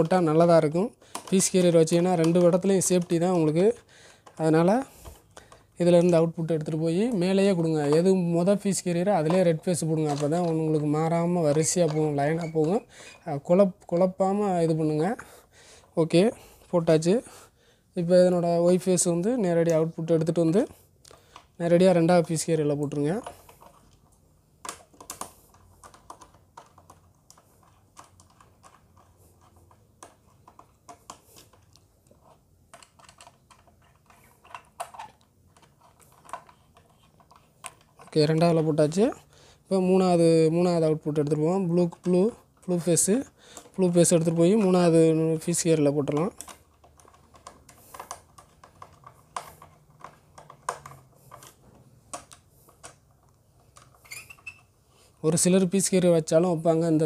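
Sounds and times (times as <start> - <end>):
hands handling wires clicking: 0.0 - 15.2, 18.6 - 56.4.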